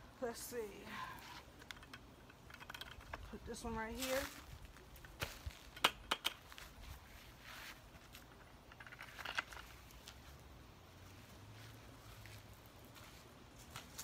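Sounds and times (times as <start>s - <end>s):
plastic buckets and soil rustling: 0.3s - 14.0s.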